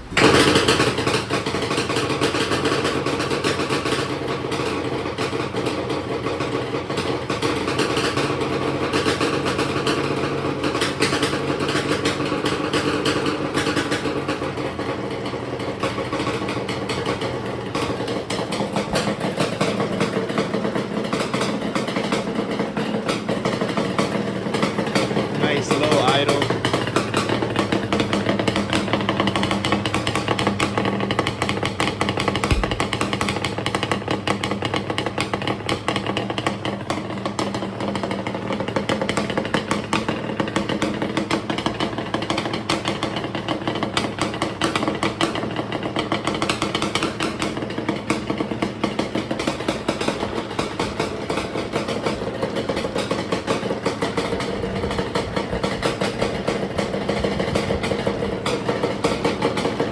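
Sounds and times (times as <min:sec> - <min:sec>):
two-stroke engine idling: 0:00.0 - 0:59.9.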